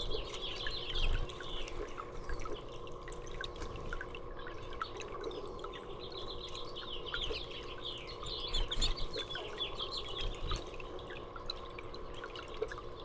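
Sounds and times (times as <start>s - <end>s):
water dripping: 0.0s - 13.0s.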